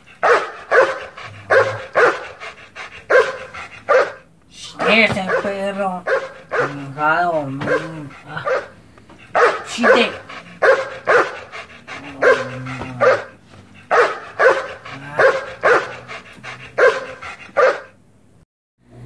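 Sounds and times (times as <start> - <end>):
dog barking: 0.0 - 18.0.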